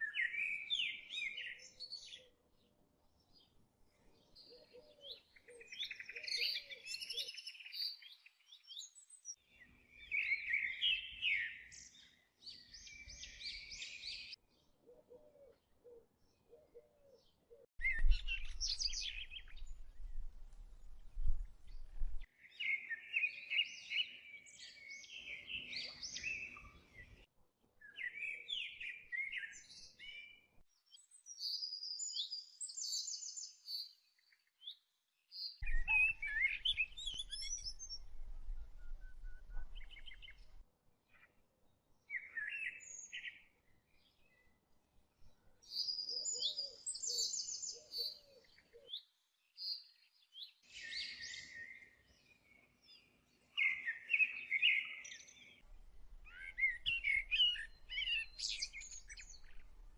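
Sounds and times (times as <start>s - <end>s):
small birds chirping: 0.0s - 2.4s, 3.2s - 59.9s.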